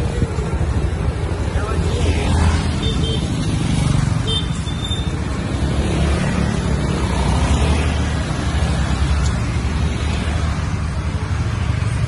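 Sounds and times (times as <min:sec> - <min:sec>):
motor scooters passing: 0:00.0 - 0:12.0.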